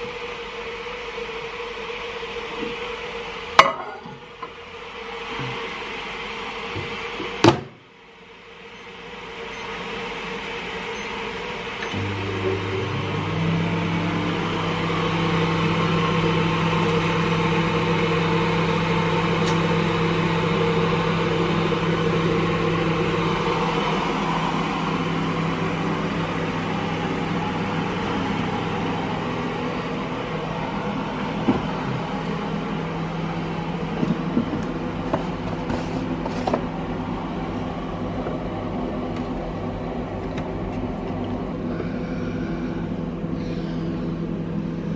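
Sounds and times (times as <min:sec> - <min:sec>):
microwave oven humming: 0:00.0 - 0:44.9.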